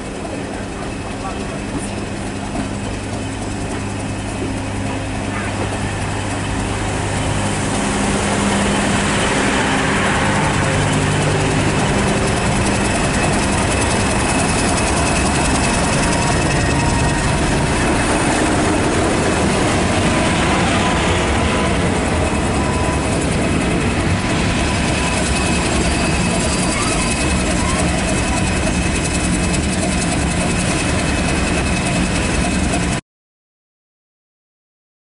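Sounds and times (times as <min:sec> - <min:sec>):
diesel locomotive engine: 0:00.0 - 0:33.0
train wheels rumbling on rails: 0:00.0 - 0:33.0.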